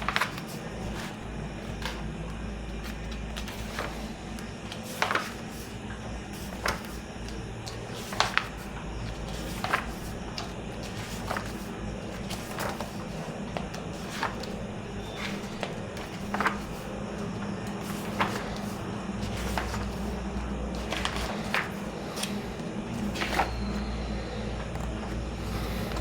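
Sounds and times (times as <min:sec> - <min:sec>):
book pages turning: 0:00.0 - 0:26.0
steady low hum: 0:00.0 - 0:26.0.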